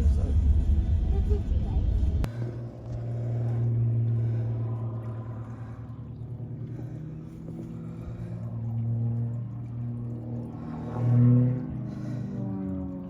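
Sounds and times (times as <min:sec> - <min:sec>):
large engine humming: 0:00.0 - 0:13.0.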